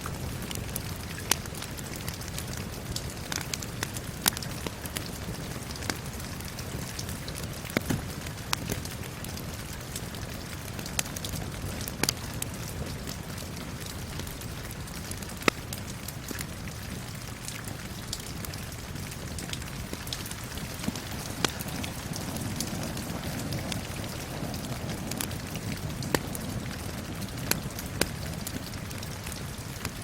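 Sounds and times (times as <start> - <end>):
steady rain falling: 0.0 - 30.0
wood fire crackling and popping: 0.0 - 30.0.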